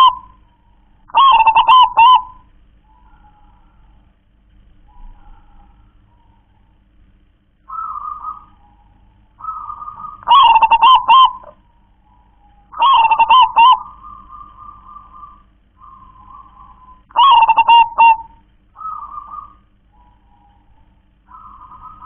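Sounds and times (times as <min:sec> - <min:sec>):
dove cooing song: 0:00.0 - 0:22.0.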